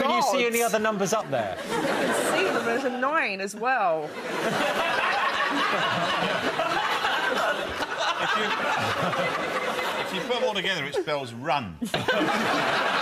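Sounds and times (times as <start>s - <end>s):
studio audience laughing: 0.8s - 3.0s, 4.0s - 13.0s.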